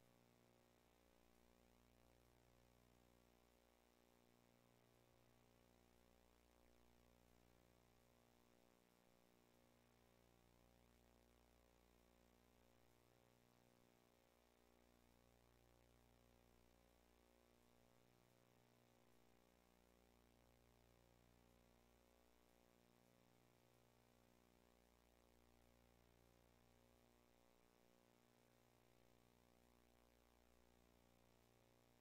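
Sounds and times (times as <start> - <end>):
faint electrical hum: 0.0 - 32.0.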